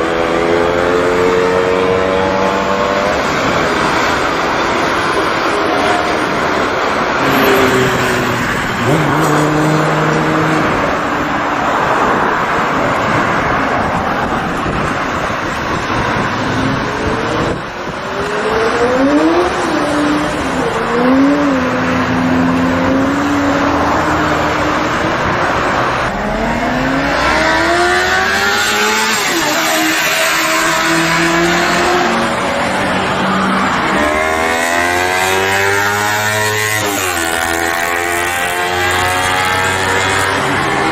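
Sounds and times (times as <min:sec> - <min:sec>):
motorcycle engines accelerating: 0:00.0 - 0:40.9
wind and road noise: 0:00.0 - 0:40.9.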